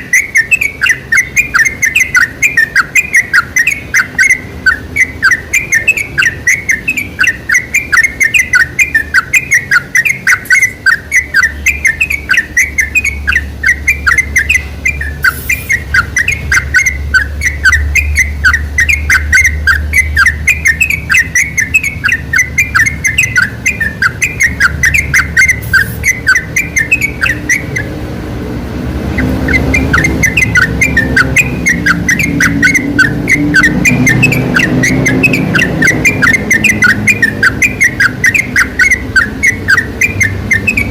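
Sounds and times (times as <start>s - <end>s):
bulbul whistled chirps: 0.0s - 27.9s, 29.2s - 40.9s.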